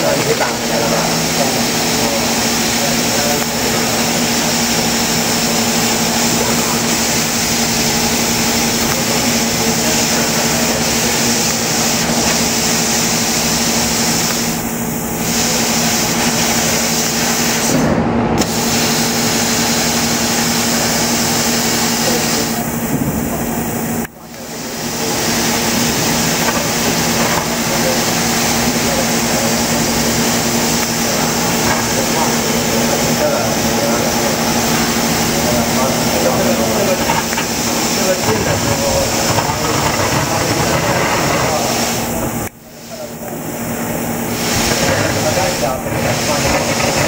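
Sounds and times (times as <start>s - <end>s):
laser cutting machine humming: 0.0s - 47.0s.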